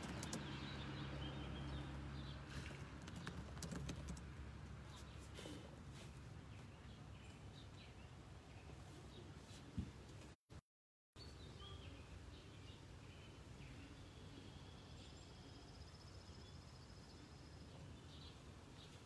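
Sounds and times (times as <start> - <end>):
small birds chirping: 0.0 - 9.8, 11.2 - 19.0.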